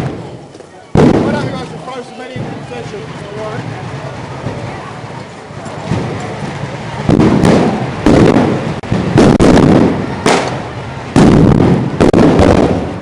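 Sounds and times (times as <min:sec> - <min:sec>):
firecrackers banging with echo: 0:00.0 - 0:13.0.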